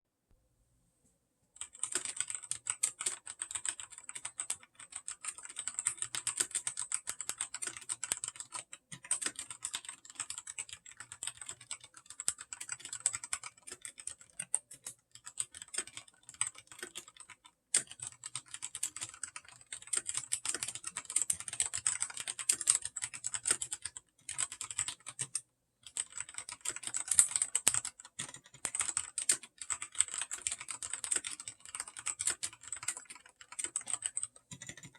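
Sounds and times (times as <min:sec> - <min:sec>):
mechanical keyboard typing: 0:01.6 - 0:34.9.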